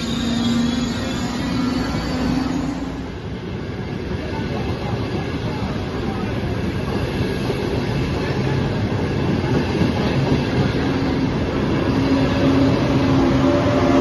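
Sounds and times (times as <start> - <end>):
train passing rush and rumble: 0.0 - 14.0.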